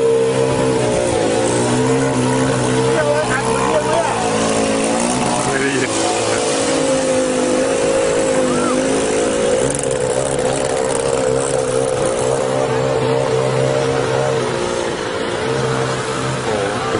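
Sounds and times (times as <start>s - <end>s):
small motorcycle engine running: 0.0s - 16.9s.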